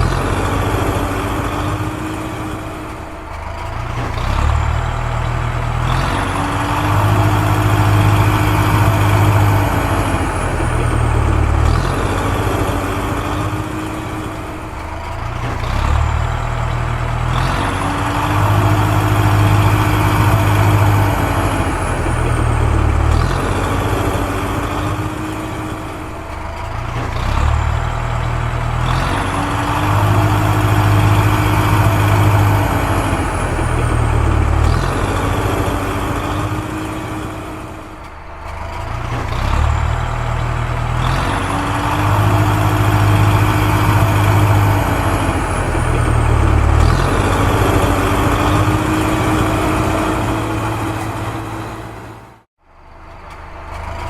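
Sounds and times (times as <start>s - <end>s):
toy digger engine hum and whine: 0.0s - 54.0s.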